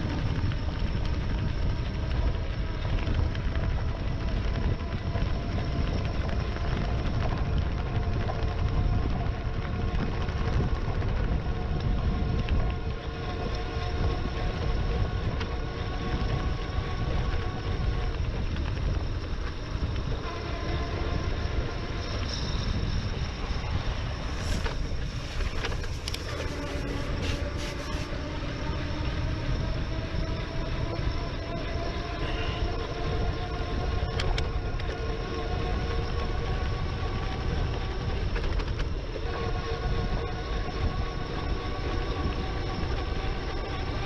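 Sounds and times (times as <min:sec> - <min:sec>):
road noise: 0:00.0 - 0:44.0
steady motor hum: 0:00.0 - 0:44.0
wind rumble on microphone: 0:00.0 - 0:44.0.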